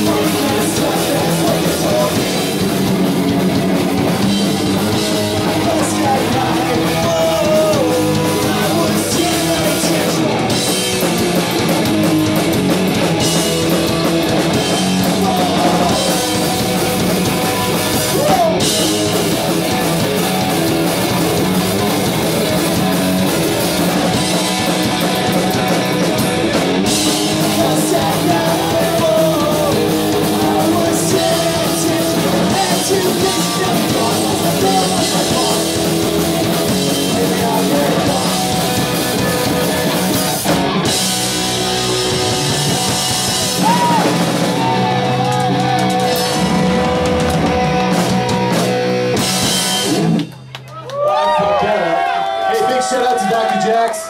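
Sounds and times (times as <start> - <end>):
punk rock band playing: 0.0 - 54.0.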